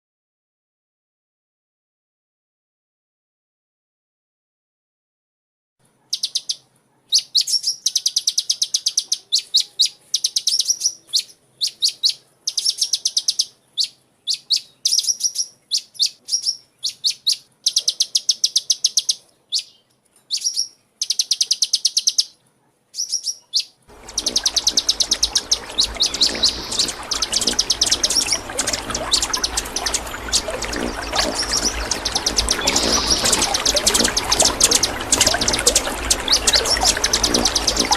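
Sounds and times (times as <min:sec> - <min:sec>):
songbird chirping: 0:05.9 - 0:37.9.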